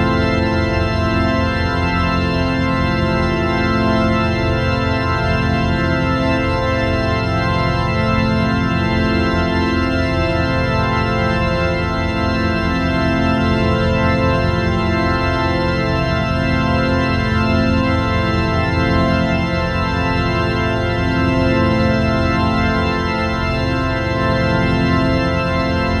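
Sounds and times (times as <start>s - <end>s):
sustained organ-like chord: 0.0s - 26.0s.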